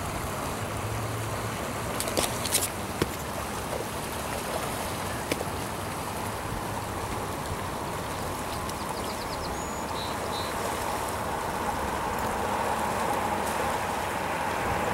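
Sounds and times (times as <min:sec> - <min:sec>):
stream running over gravel: 0:00.0 - 0:14.9.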